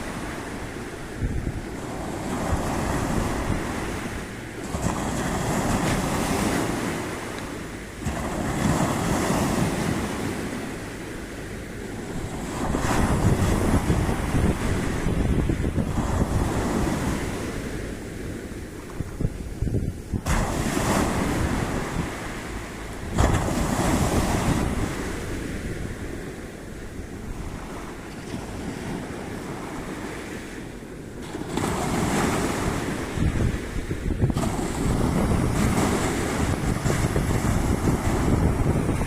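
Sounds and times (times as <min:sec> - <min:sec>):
sea waves breaking on shore: 0:00.0 - 0:39.0
wind rumbling on microphone: 0:00.0 - 0:39.0.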